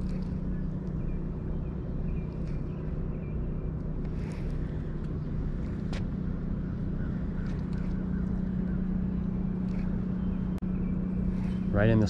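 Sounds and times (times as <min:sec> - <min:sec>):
low mechanical hum: 0:00.0 - 0:12.0
low rumble: 0:00.0 - 0:12.0.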